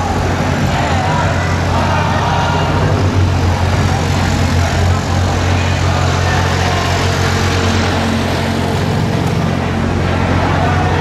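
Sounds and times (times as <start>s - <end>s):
large engine idling: 0.0s - 11.0s
outdoor noise: 0.0s - 11.0s.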